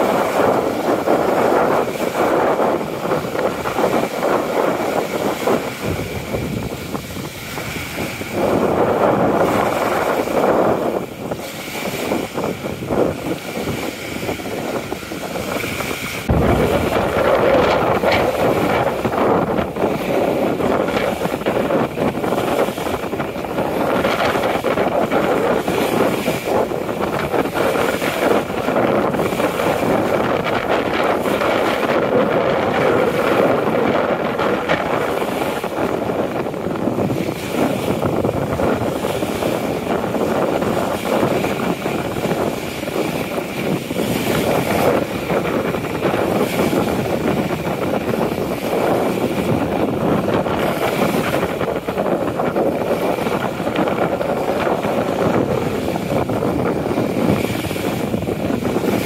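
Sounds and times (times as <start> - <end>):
water lapping against shore: 0.0 - 59.0
wind buffeting microphone: 0.0 - 59.0.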